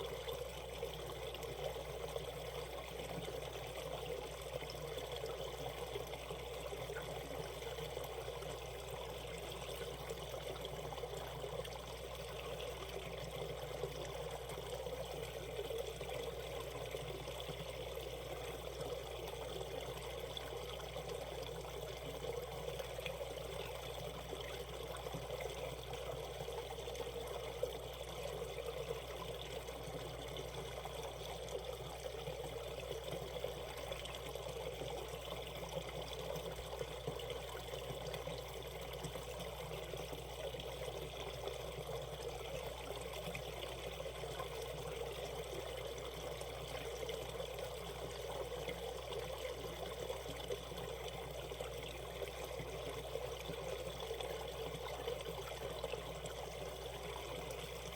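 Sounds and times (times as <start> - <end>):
stream running over rocks: 0.0 - 57.9.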